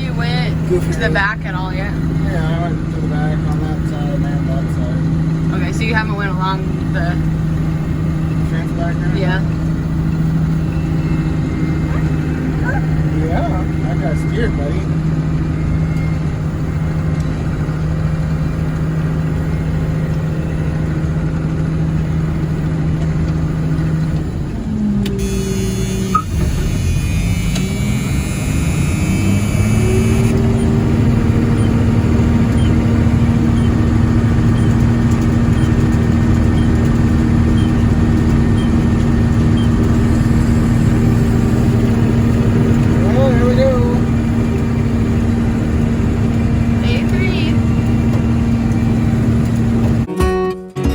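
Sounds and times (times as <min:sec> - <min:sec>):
combine harvester engine running: 0:00.0 - 0:50.2.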